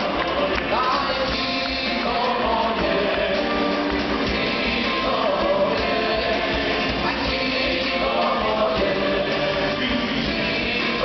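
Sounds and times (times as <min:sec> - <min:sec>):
live band music: 0:00.0 - 0:11.0
man singing into a microphone: 0:00.0 - 0:11.0.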